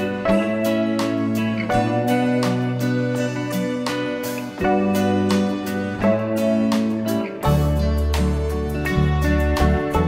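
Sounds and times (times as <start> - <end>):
strummed guitar music: 0.0 - 10.0.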